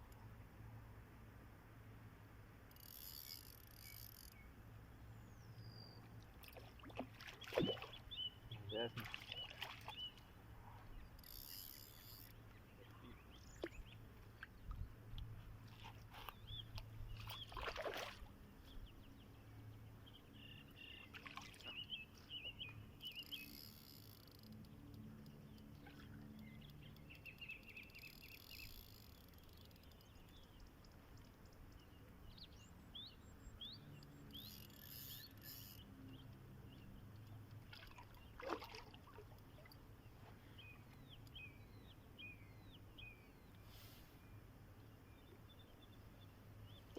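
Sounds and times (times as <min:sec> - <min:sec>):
small birds chirping: 0:02.8 - 0:46.9.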